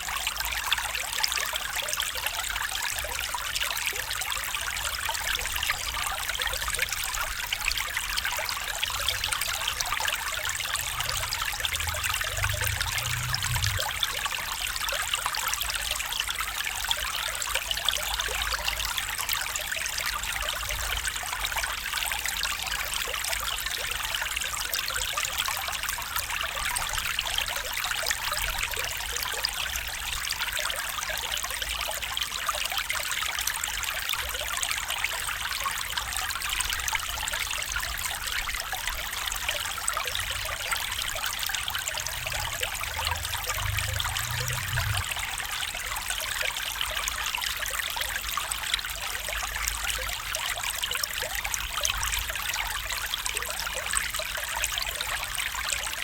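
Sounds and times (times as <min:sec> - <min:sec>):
stream water trickling over stones: 0:00.0 - 0:56.0.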